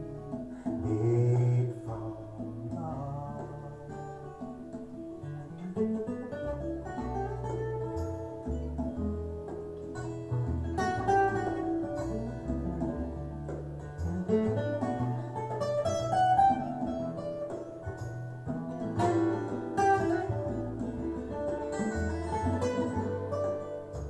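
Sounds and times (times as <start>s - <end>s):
bass line: 0.0s - 24.0s
plucked guitar: 0.0s - 24.0s.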